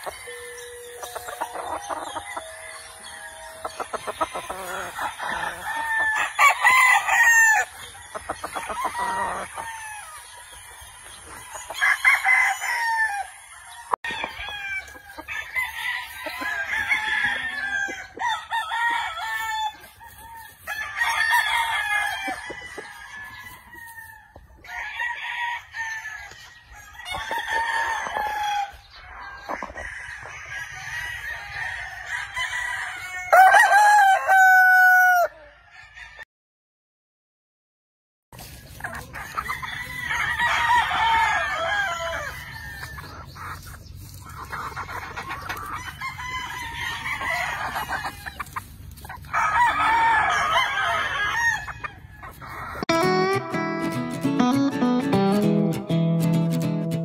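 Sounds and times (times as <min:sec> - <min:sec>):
chickens clucking: 0:00.0 - 0:34.6, 0:38.4 - 0:57.0
roosters crowing: 0:00.0 - 0:36.2, 0:38.7 - 0:53.0.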